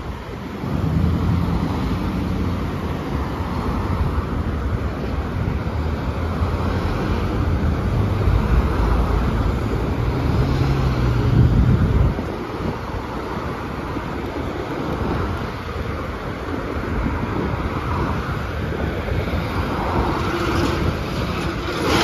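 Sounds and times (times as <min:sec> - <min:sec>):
cars passing: 0:00.0 - 0:22.0
tyre and road noise: 0:00.0 - 0:22.0.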